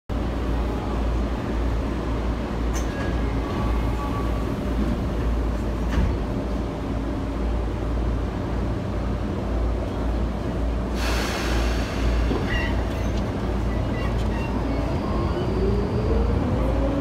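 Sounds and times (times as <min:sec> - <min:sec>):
train wheels rumbling in tunnel: 0:00.1 - 0:17.0.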